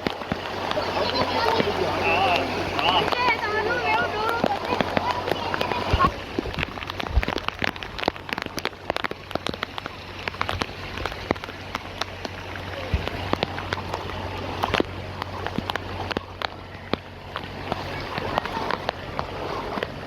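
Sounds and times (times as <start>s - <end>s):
raindrops clicking on a surface: 0.0s - 20.0s.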